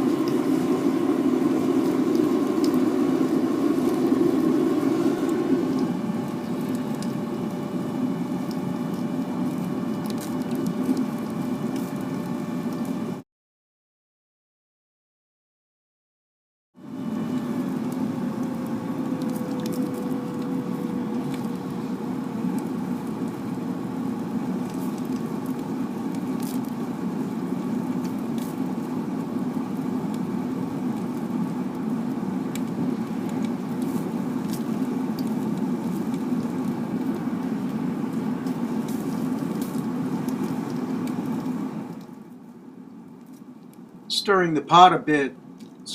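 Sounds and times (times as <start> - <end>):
burner whine: 0.0 - 13.2, 16.8 - 45.9
crackles and sizzles: 0.0 - 13.2, 16.8 - 45.9
propane burner roaring: 0.0 - 13.2, 16.8 - 45.9.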